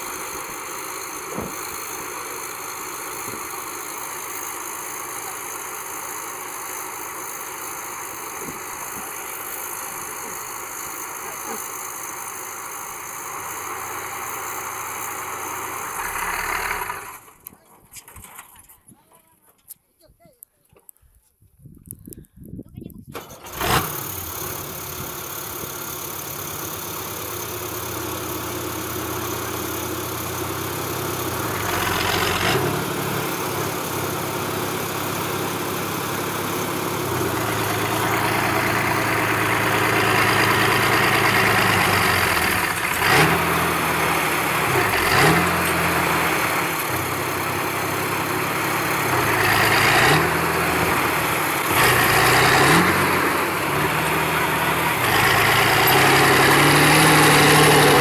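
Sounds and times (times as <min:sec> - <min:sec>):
tractor diesel engine revving: 0:00.0 - 0:18.7, 0:23.1 - 0:58.0.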